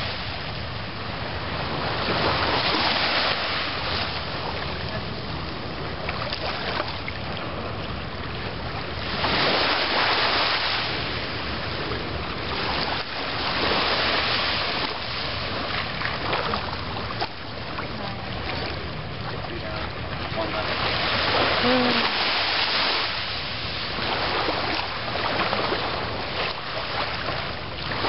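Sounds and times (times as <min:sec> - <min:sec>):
ocean surf washing on shore: 0:00.0 - 0:28.0
wind on microphone: 0:00.0 - 0:28.0.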